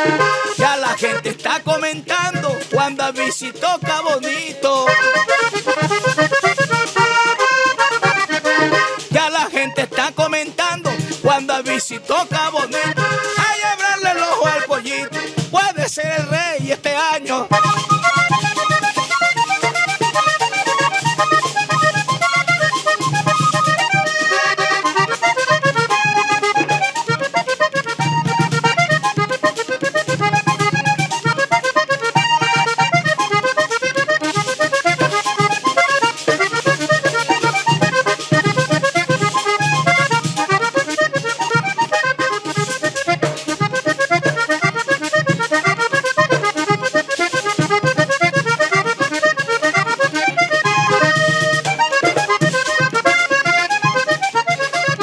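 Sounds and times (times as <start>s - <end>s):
button accordion melody: 0.0s - 55.0s
scraper percussion: 0.0s - 55.0s
drum strokes: 4.8s - 14.2s, 17.6s - 55.0s.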